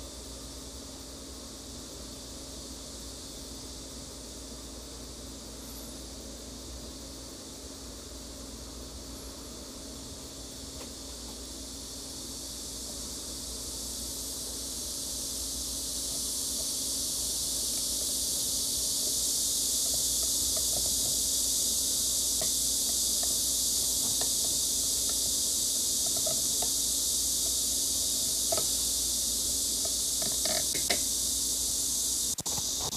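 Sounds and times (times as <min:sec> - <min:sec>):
steady high hiss: 0:00.0 - 0:32.9.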